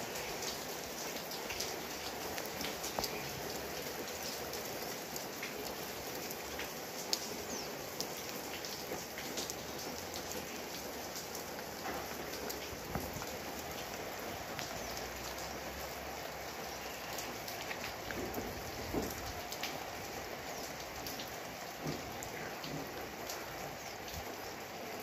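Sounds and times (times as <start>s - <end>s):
rain falling on foliage: 0.0s - 25.0s.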